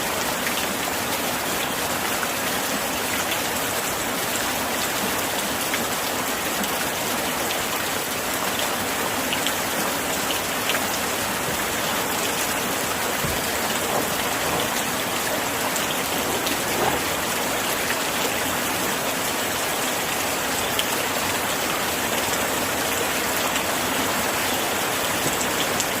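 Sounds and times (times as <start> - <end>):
rain on window glass: 0.1 - 26.0.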